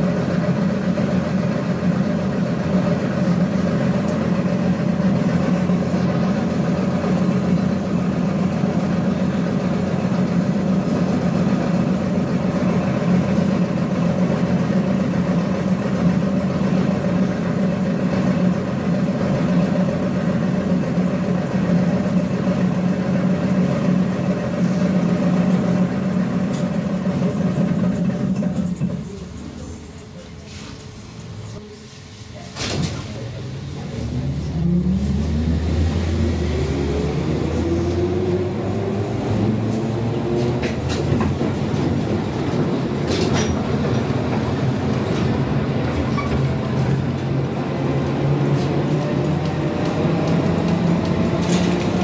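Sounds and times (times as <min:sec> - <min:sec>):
trolleybus machinery hum: 0:00.0 - 0:52.0.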